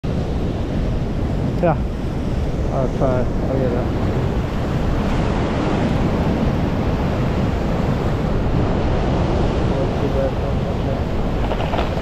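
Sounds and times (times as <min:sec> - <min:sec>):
wind buffeting microphone: 0:00.0 - 0:12.0
ocean surf crashing on rocks: 0:00.1 - 0:12.0.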